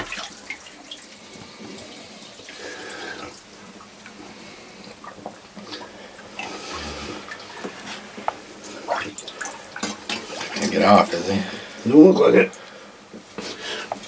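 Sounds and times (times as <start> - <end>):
water sloshing and trickling: 0.0 - 12.6.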